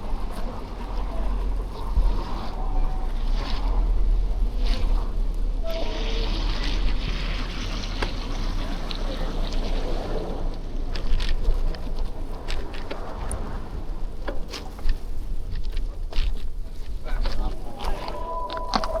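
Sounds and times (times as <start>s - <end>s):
tyre and traffic road noise: 0.0s - 19.0s
wind rumble on microphone: 0.0s - 19.0s.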